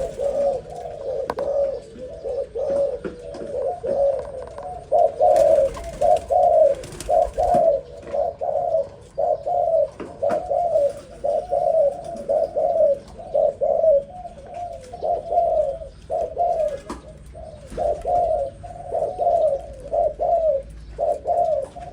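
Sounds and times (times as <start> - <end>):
dove cooing: 0.0 - 21.9.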